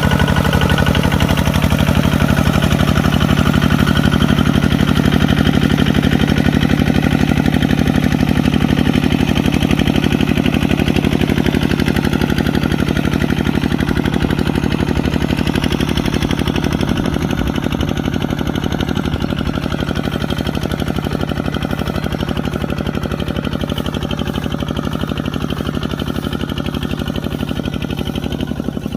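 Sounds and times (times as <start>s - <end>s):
diesel engine knocking: 0.0s - 28.9s.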